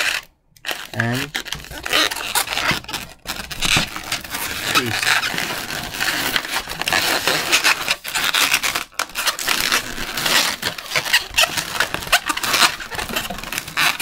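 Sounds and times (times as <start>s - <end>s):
balloons squeaking and rubbing: 0.0s - 14.0s.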